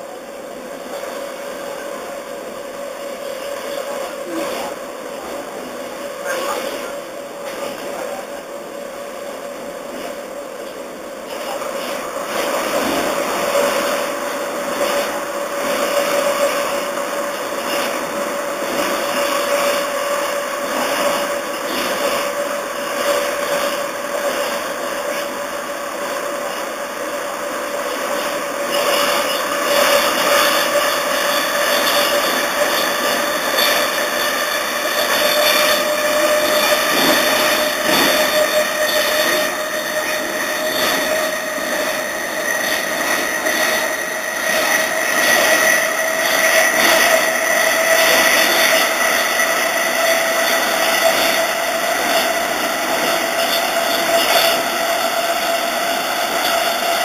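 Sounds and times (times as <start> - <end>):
electric train motors whining: 0.0 - 57.0
wheel and rail noise: 0.0 - 57.0.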